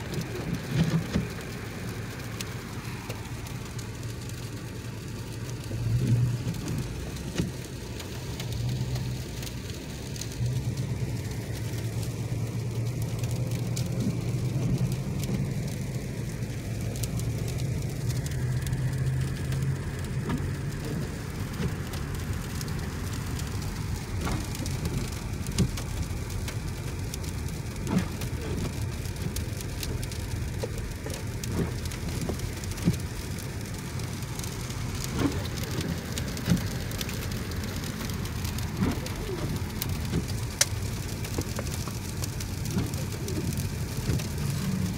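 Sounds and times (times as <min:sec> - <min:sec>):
car road hum: 0:00.0 - 0:44.9.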